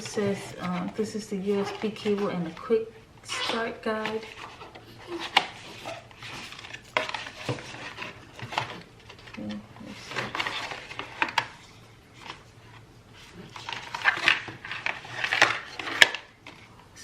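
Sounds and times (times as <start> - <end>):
box rustling: 0.0 - 16.8.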